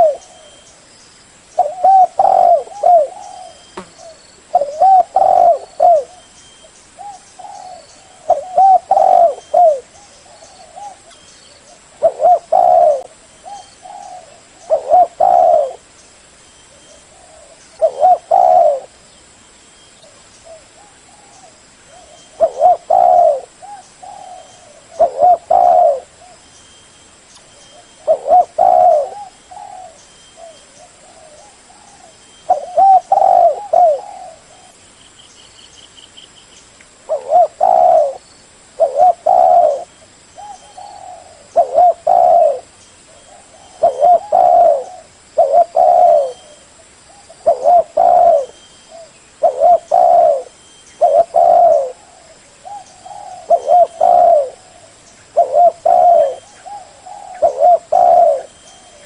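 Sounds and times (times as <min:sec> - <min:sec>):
dove cooing: 0:00.0 - 0:00.7, 0:01.6 - 0:06.3, 0:07.0 - 0:15.9, 0:16.8 - 0:19.0, 0:20.0 - 0:26.4, 0:27.6 - 0:34.8, 0:37.1 - 0:38.2, 0:38.8 - 0:59.0.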